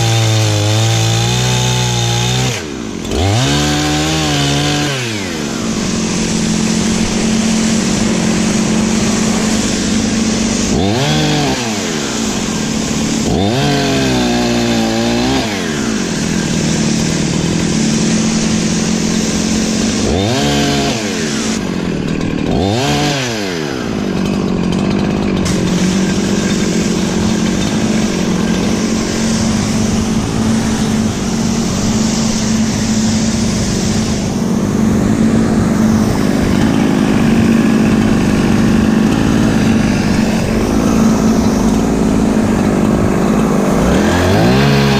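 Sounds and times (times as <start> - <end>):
chainsaw cutting firewood: 0.0 - 44.9
chainsaw revving: 0.0 - 44.9.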